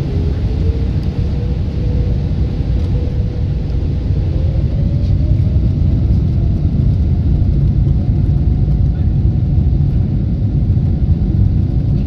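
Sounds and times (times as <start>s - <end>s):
jet engines at takeoff thrust: 0.0s - 12.0s.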